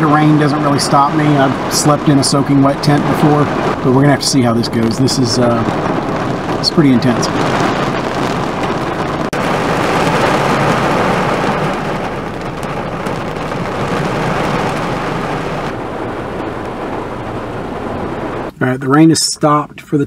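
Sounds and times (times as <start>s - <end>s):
heavy rain pouring: 0.0s - 18.5s.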